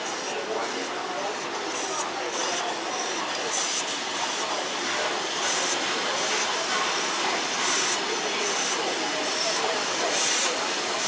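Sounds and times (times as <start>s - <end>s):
bursts of steam hissing: 0.0s - 11.0s
steam locomotive hissing: 0.0s - 11.0s.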